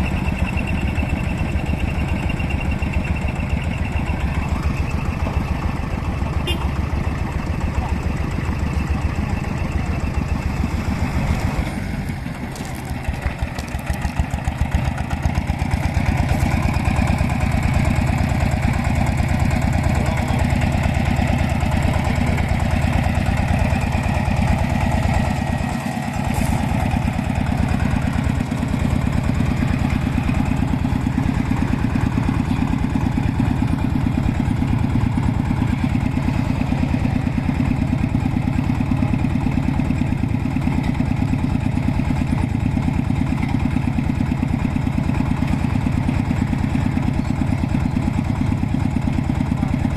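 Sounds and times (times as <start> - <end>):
engine running at even beat: 0.0 - 49.9.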